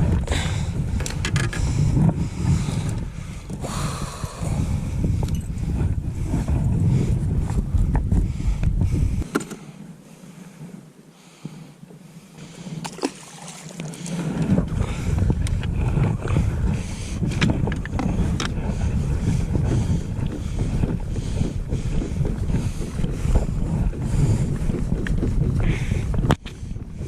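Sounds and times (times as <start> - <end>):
wind buffeting microphone: 0.0 - 9.4, 12.4 - 27.0.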